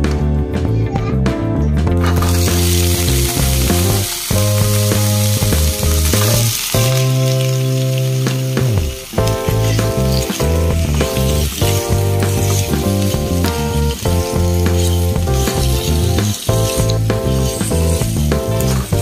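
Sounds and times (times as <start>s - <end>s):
background music with held notes: 0.0s - 19.0s
meat sizzling in a pan: 2.1s - 19.0s
spatula stirring in pan: 2.4s - 19.0s.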